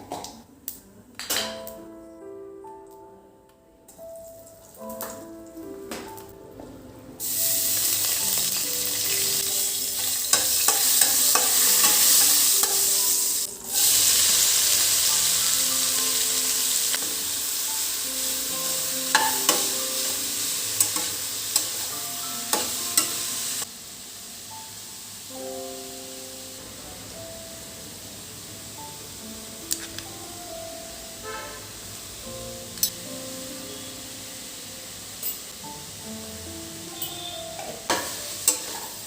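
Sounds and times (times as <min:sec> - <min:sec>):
soft background music: 0:00.0 - 0:39.0
food sizzling in a pan: 0:07.2 - 0:39.0.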